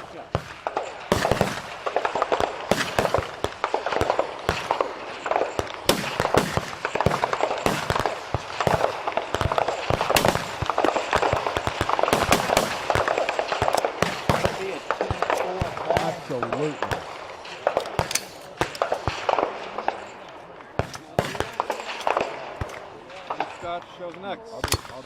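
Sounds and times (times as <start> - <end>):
rifle shots: 0.0 - 24.0, 24.6 - 25.0.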